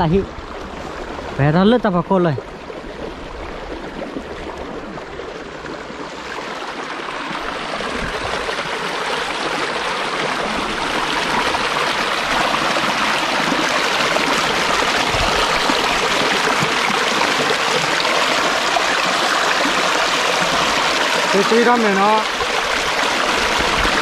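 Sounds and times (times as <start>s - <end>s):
steady rushing water-like noise: 0.0s - 24.0s.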